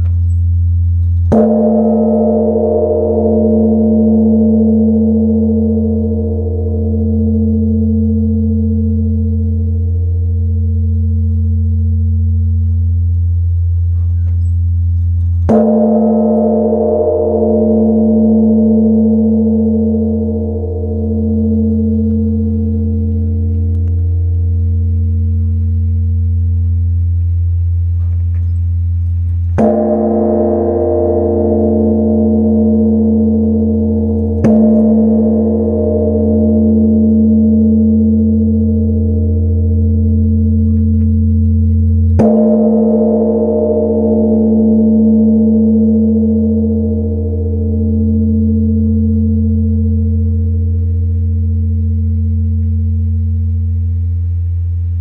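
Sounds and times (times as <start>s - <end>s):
large bronze bell ringing: 0.0s - 53.9s.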